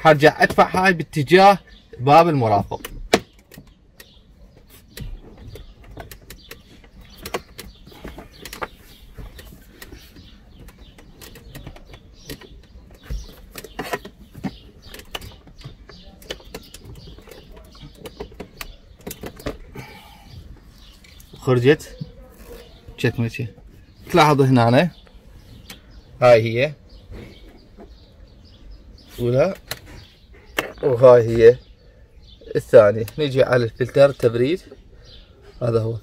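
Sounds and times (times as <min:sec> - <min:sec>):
plastic glove box clicks and creaks: 0:00.2 - 0:31.7, 0:32.6 - 0:34.9.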